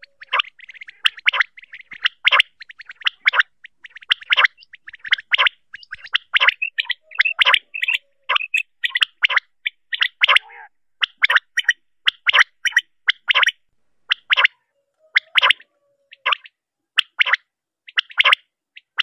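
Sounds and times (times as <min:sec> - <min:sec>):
quail rasping call: 0:00.0 - 0:19.0.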